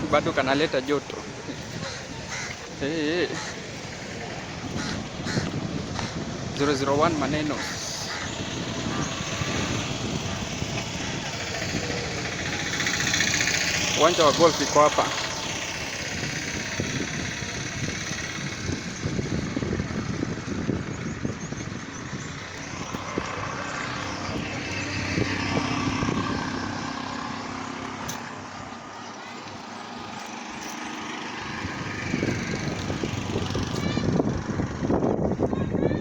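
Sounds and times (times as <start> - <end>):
vehicle engine passing: 0.0 - 35.8
road traffic passing: 0.0 - 36.0.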